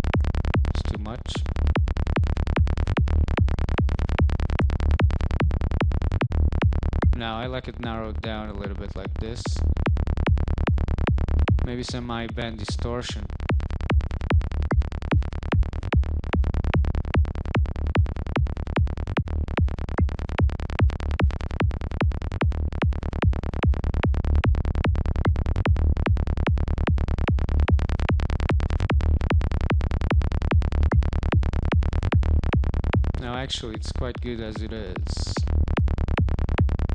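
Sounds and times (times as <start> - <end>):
rolling synth bass: 0.0 - 36.9
steady kick drum: 0.0 - 36.9.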